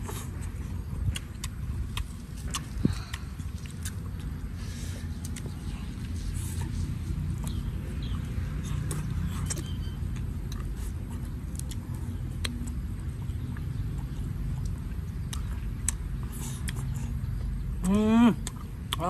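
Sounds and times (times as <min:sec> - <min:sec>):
food chewing: 0:00.0 - 0:19.0.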